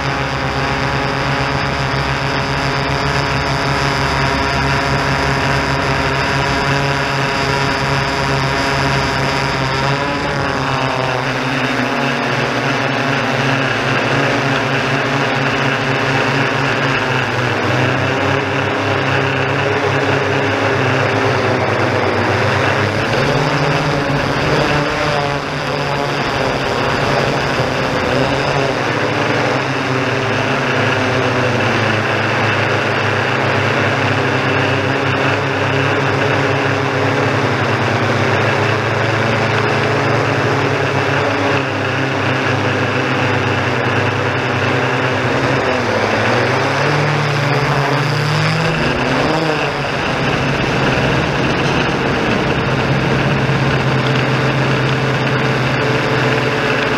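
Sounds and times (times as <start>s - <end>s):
drone propellers droning: 0.0s - 56.9s.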